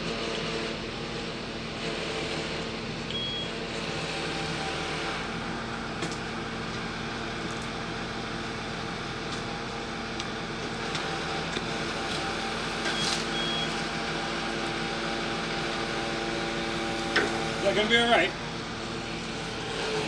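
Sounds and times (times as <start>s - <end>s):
lorry engine running: 0.0s - 20.0s.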